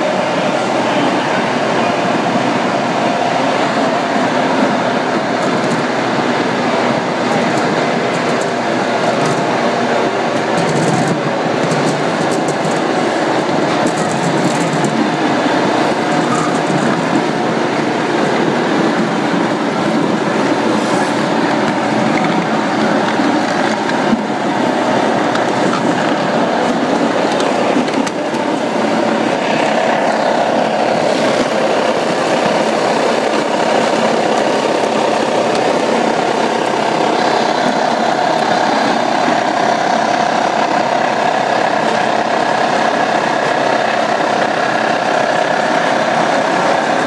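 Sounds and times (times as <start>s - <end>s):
pressing machinery running: 0.0s - 47.0s.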